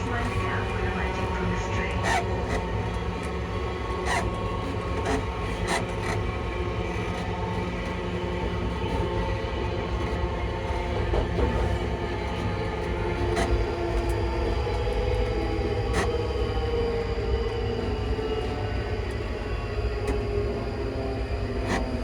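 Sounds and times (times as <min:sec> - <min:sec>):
electric train motors humming: 0:00.0 - 0:22.0
wheels rumbling on rail: 0:00.0 - 0:22.0.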